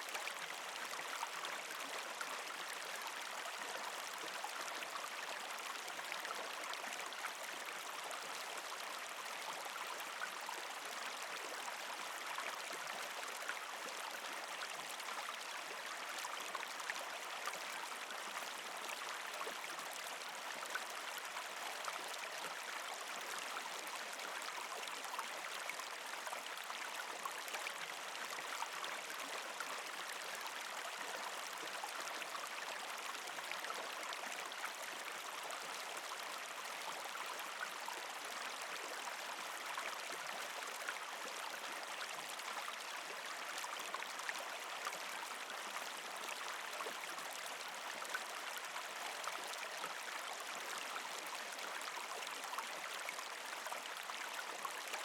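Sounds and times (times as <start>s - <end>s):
creek water gurgling over rocks: 0.0s - 55.0s.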